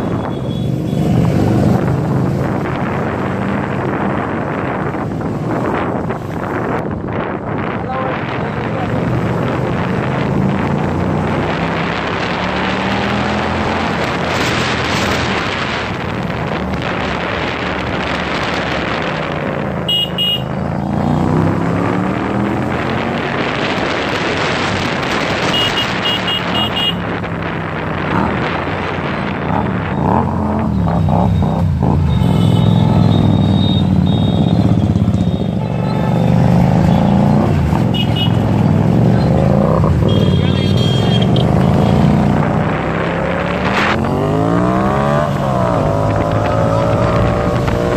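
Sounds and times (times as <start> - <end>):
wind rushing over microphone: 0.0 - 32.1, 32.8 - 47.9
motorcycle engine revving: 8.2 - 47.9.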